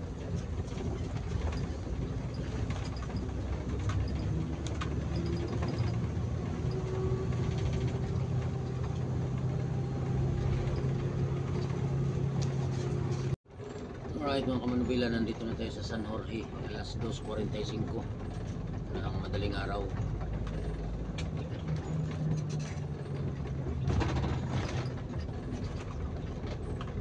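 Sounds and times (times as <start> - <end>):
bus engine rumbling: 0.0 - 27.0
road noise: 0.0 - 27.0.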